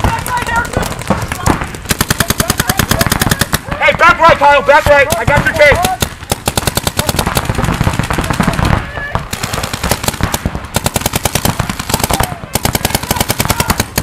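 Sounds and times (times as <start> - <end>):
paintball markers firing: 0.0 - 14.0.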